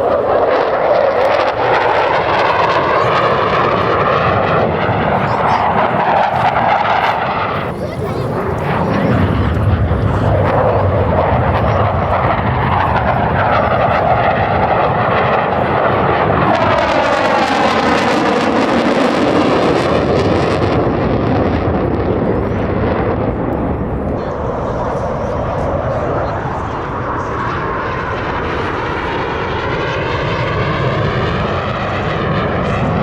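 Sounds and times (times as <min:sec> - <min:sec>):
jets flying past roaring: 0:00.0 - 0:33.0.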